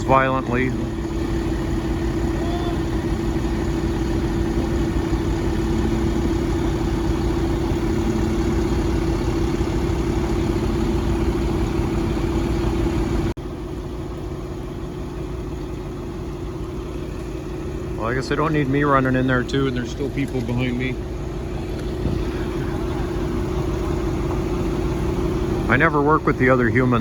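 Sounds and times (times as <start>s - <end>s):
crane engine humming: 0.0s - 27.0s.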